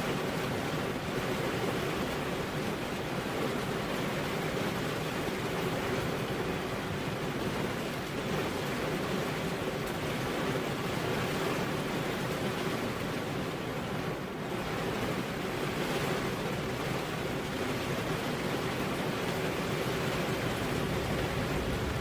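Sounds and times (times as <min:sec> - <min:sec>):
rain falling steadily: 0:00.0 - 0:22.0.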